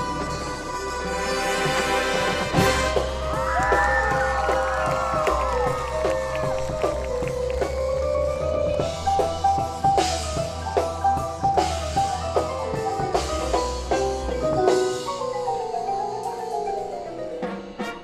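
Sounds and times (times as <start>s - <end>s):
drums: 0.0s - 18.0s
marimba and xylophone: 2.6s - 18.0s.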